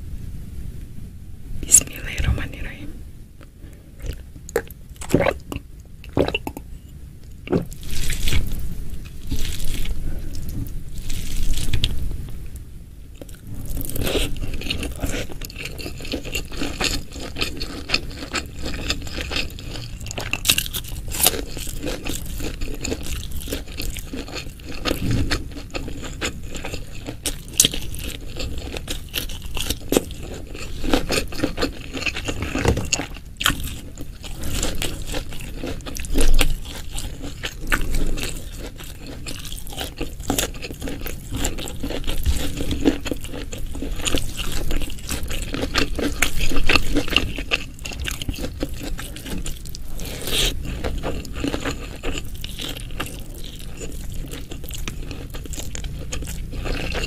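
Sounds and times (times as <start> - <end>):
person chewing crunchy food: 3.9 - 12.4, 13.2 - 57.0.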